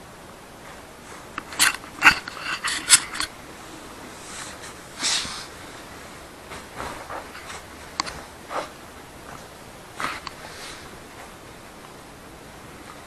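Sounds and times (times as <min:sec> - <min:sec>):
soft rustle: 0:00.5 - 0:13.0.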